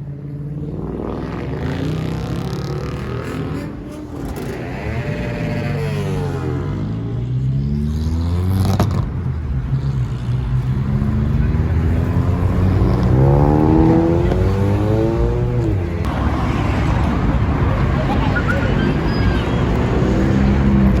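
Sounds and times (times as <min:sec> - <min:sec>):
car engine revving: 0:00.6 - 0:21.0.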